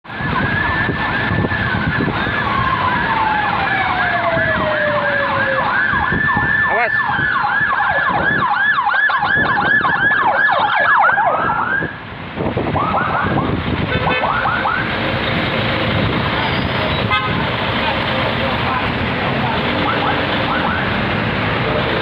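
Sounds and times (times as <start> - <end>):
moving vehicles: 0.0 - 22.0
sirens yelping: 0.1 - 22.0.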